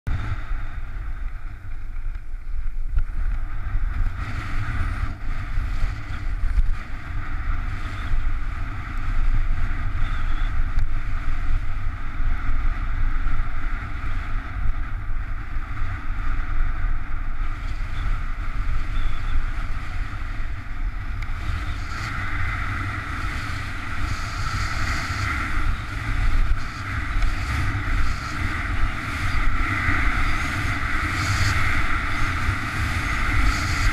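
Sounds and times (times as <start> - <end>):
low rumble: 0.1 - 33.9
wind buffeting microphone: 0.1 - 33.9.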